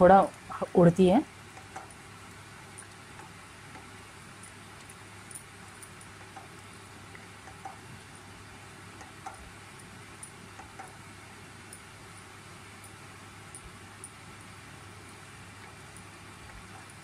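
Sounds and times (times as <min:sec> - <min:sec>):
steady hiss and low hum: 0:00.0 - 0:17.0.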